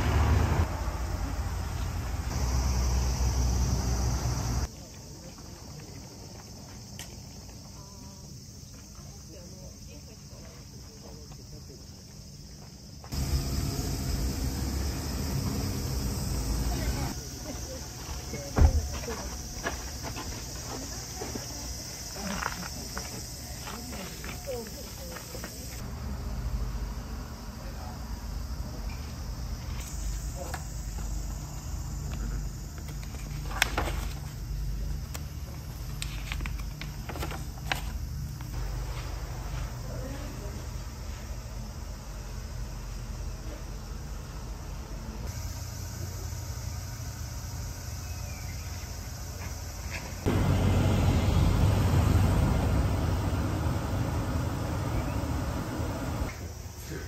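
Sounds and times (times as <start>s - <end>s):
cicadas shrilling: 0.0s - 57.0s
insect chorus: 0.0s - 57.0s.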